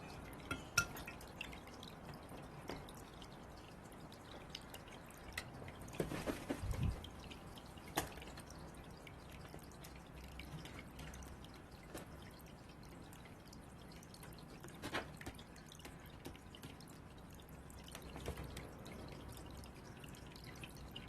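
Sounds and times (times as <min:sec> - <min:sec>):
birds pecking and tapping: 0:00.3 - 0:19.6.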